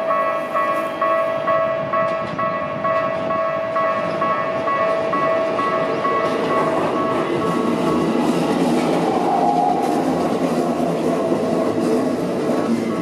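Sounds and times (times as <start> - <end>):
electric train running: 0.0 - 13.0.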